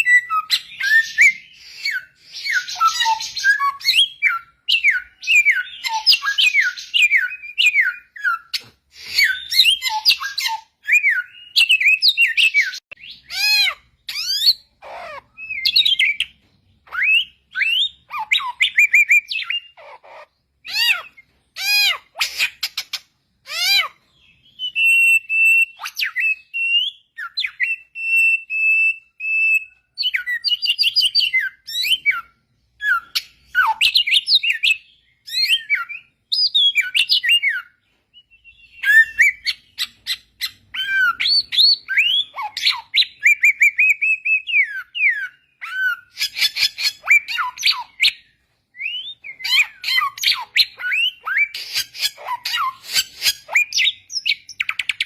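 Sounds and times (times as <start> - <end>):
bird singing whistled phrases: 0.0 - 16.3, 23.5 - 55.0.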